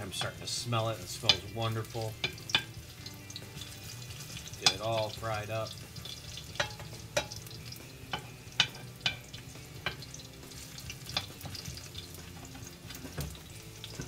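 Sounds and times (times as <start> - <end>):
garlic sizzling in oil: 0.0 - 14.0
metal spoon scraping a pan: 0.0 - 14.0.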